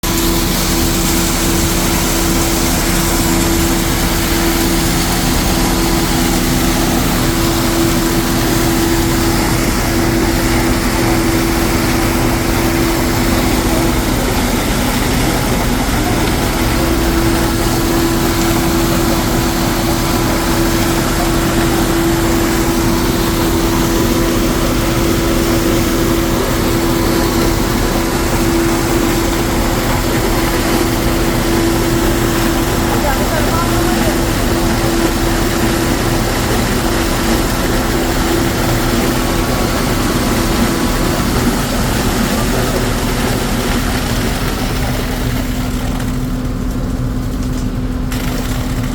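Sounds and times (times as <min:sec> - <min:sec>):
heavy machinery engine droning: 0:00.0 - 0:48.9.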